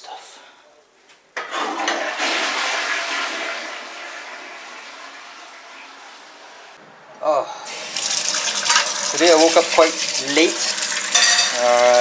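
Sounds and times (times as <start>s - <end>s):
toilet flushing: 1.4s - 6.8s, 7.7s - 12.0s.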